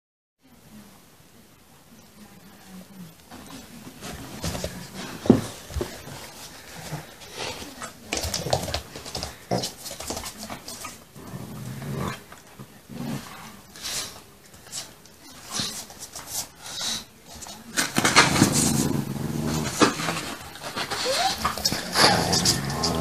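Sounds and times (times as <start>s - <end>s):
dogs play-growling: 3.9s - 23.0s.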